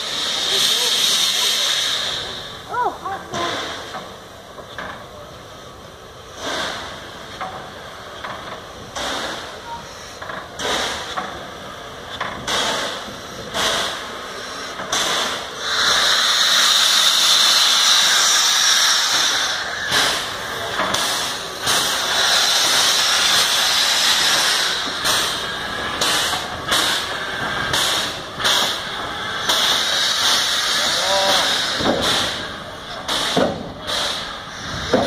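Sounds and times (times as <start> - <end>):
steam hissing: 0.0 - 35.0
locomotive exhaust chuffs: 3.3 - 35.0.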